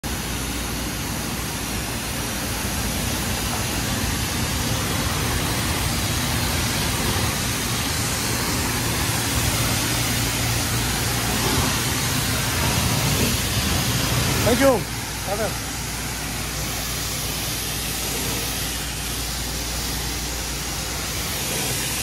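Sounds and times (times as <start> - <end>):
pressure wand spraying water: 0.0 - 22.0.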